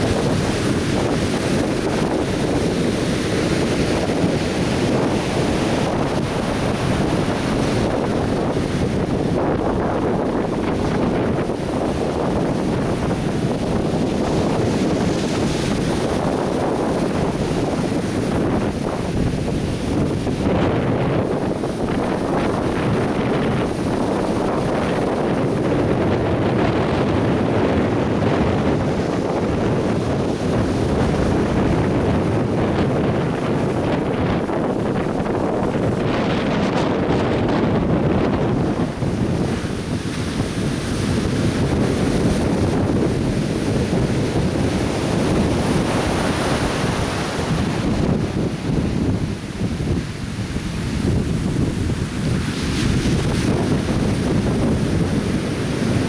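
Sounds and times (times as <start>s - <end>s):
surf waves breaking: 0.0s - 56.0s
wind buffeting microphone: 0.0s - 56.0s.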